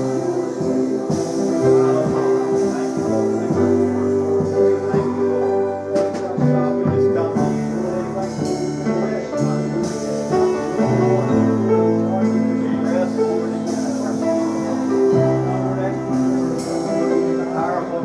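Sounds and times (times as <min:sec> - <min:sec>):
sustained keyboard chords: 0:00.0 - 0:18.0
worship band instrumental: 0:00.0 - 0:18.0.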